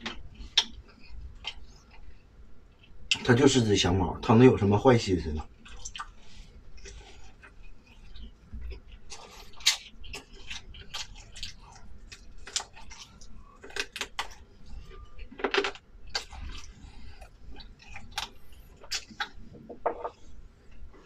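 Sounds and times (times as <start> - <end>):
person chewing: 0.0 - 3.2, 5.5 - 21.0.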